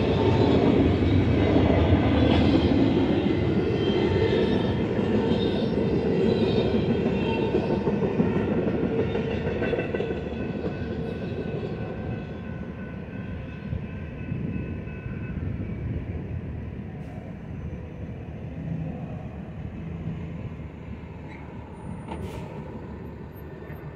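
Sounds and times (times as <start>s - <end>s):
freight train rolling past: 0.0s - 23.9s.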